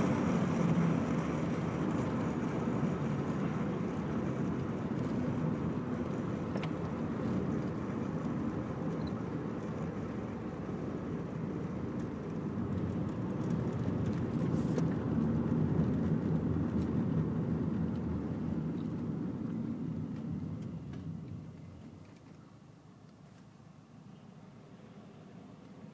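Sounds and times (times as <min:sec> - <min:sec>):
car engine running: 0:00.0 - 0:22.2
road noise: 0:00.0 - 0:25.9.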